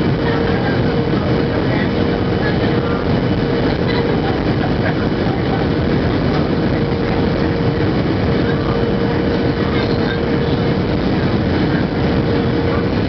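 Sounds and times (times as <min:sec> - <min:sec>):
airplane cabin roar: 0:00.0 - 0:13.0
steady hum: 0:00.0 - 0:13.0.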